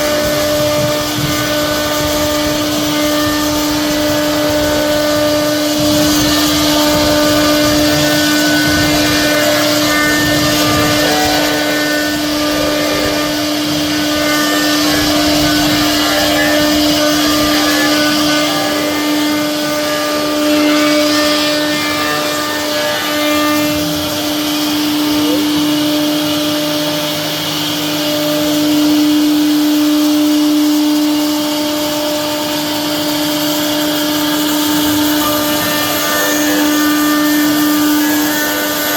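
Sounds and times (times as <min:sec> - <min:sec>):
router bit cutting wood: 0:00.0 - 0:38.9
router spindle whining: 0:00.0 - 0:38.9.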